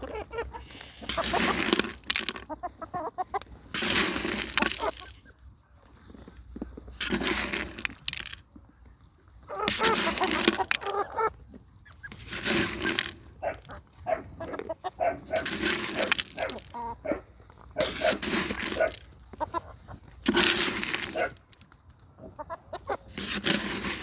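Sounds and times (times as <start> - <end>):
chickens clucking and squawking: 0.0 - 5.5, 9.0 - 24.0.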